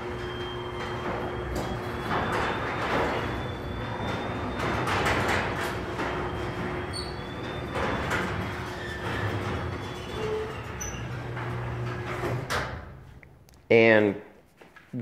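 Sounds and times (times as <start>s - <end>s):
garage door opener running: 0.0s - 13.4s.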